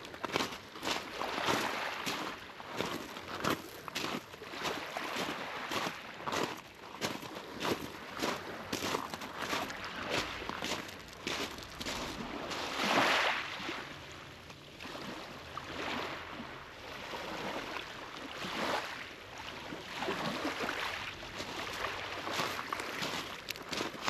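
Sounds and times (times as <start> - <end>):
small waves washing on shore: 0.0 - 24.0.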